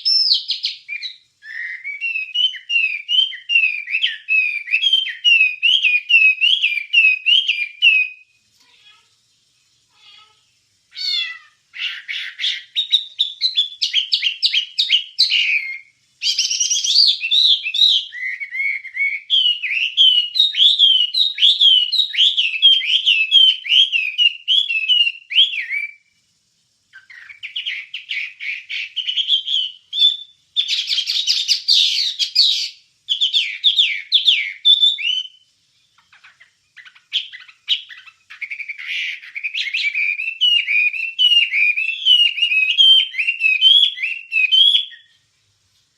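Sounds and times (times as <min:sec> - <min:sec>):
songbird singing trills: 0:00.0 - 0:09.0, 0:09.8 - 0:26.1, 0:26.9 - 0:45.3.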